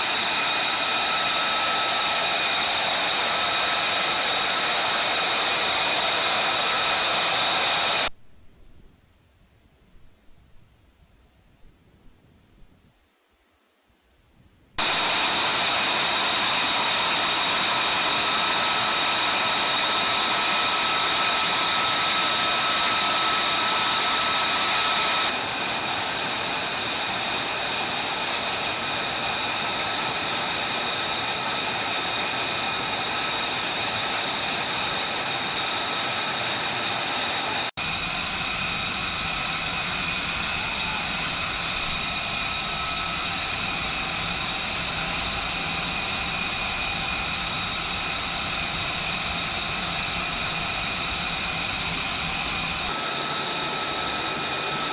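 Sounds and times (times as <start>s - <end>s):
jet engine rushing: 0.0s - 8.1s, 14.8s - 54.9s.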